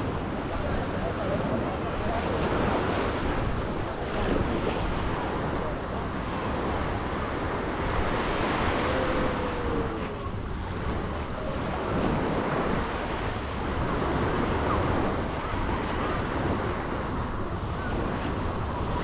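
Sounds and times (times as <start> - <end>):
sea waves washing onto shore: 0.0 - 19.0
wind buffeting microphone: 0.0 - 19.0.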